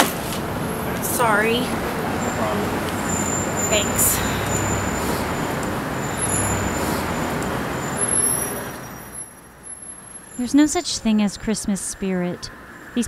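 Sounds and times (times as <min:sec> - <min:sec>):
vehicle passing on road: 0:00.0 - 0:10.5.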